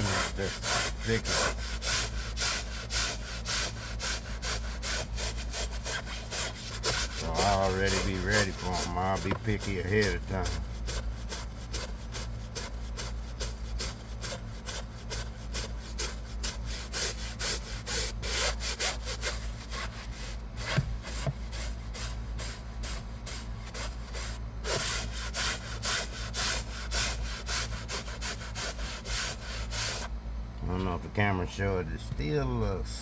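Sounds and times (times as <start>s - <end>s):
brush scrubbing fabric seat: 0.0s - 30.1s
steady low hum: 0.0s - 33.0s.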